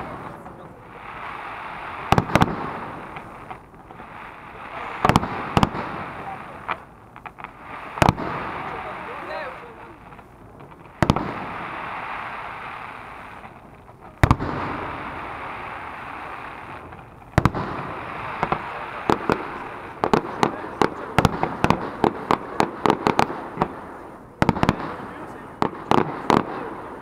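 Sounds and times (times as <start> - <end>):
firework shells bursting: 0.0 - 26.7.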